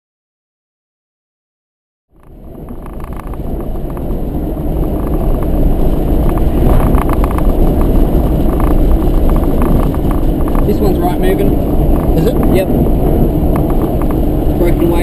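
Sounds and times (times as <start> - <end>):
car road and wind noise: 2.1 - 15.0.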